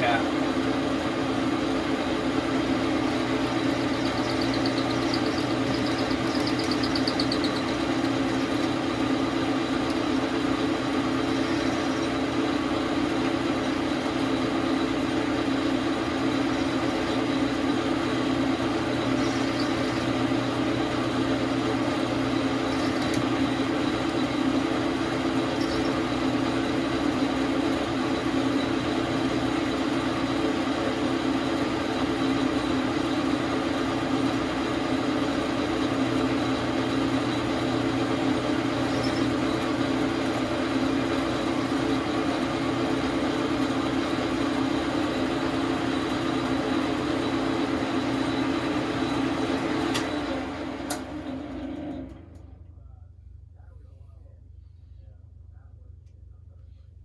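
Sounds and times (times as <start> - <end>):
metal lathe motor hum: 0.0 - 52.4.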